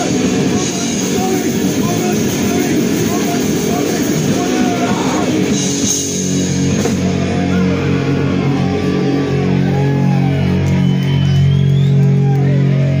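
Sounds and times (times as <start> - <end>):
bass guitar drone: 0.0 - 13.0
distorted electric guitar: 0.0 - 13.0.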